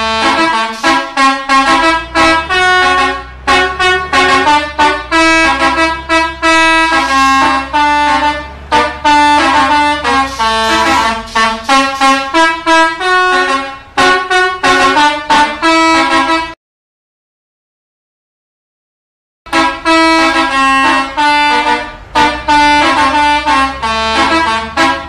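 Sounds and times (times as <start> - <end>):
musical bus air horn melody: 0.0 - 16.6, 19.5 - 25.0.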